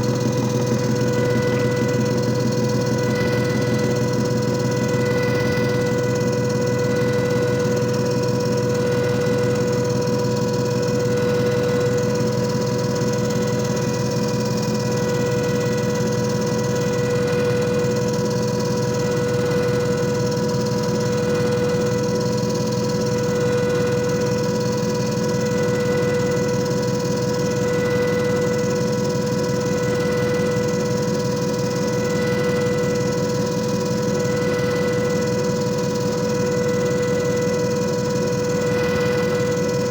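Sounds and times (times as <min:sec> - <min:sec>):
electric motor humming with whine: 0:00.0 - 0:39.9.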